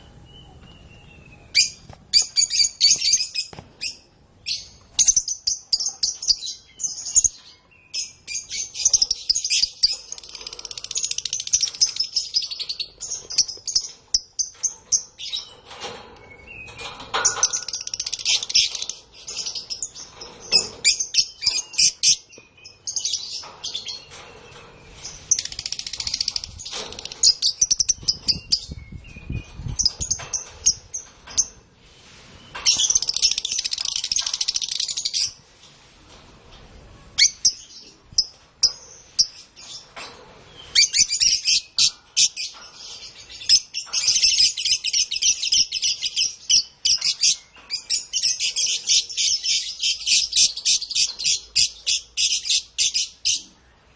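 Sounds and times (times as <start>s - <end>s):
canaries trilling: 0.4s - 31.7s, 37.1s - 53.6s.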